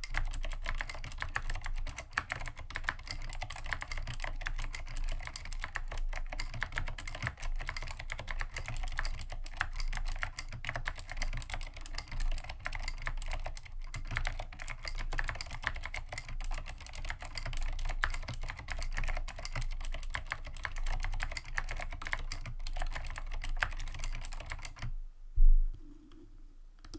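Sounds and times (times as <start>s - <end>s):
clicky mechanical keyboard typing: 0.0s - 24.9s.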